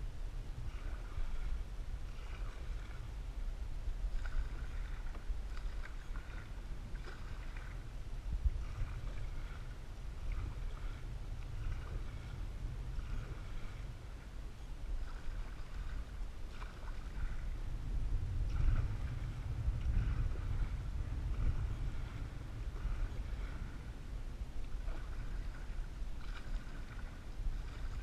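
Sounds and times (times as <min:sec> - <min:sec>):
paddle strokes swishing through water: 0:00.0 - 0:28.0
steady low rumble: 0:00.0 - 0:28.0.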